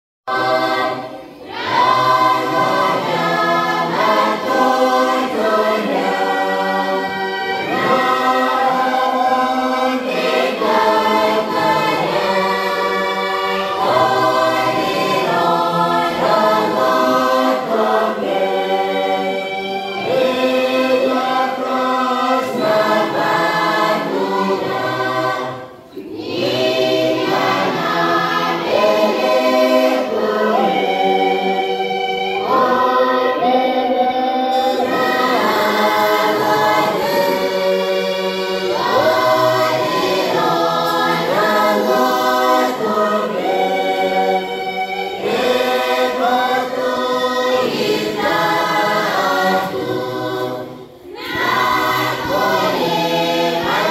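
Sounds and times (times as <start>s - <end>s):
mixed choir singing a hymn: 0.3s - 53.9s.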